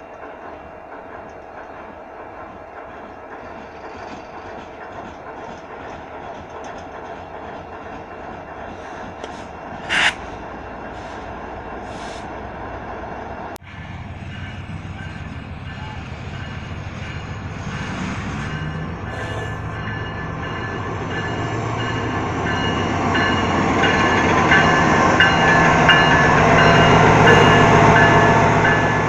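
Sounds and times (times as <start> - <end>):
locomotive engine rumble: 0.0 - 29.0.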